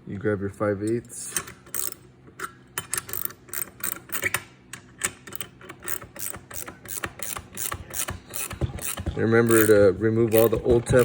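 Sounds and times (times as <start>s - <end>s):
wrench clicking: 1.3s - 11.0s.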